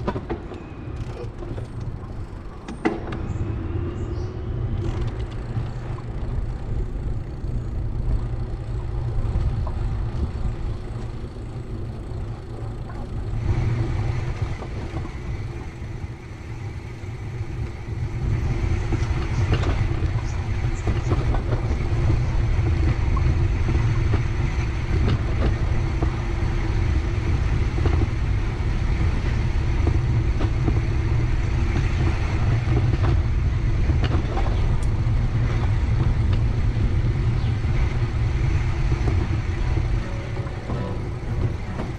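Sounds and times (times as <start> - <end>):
bicycle road noise: 0.0 - 41.9
wind rumbling on microphone: 0.0 - 41.9.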